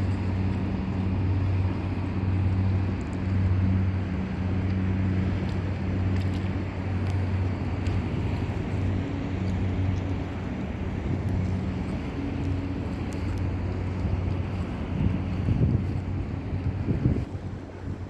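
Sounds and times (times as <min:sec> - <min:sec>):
low engine drone: 0:00.0 - 0:18.0
outdoor background noise: 0:00.0 - 0:18.0.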